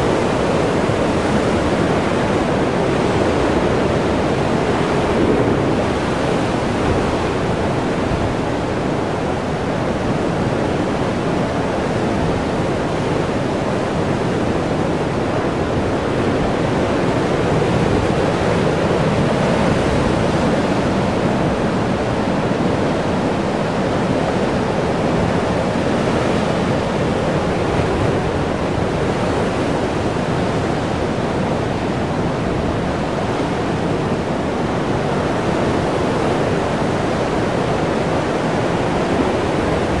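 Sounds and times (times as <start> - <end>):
heavy surf over rocks: 0.0 - 40.0.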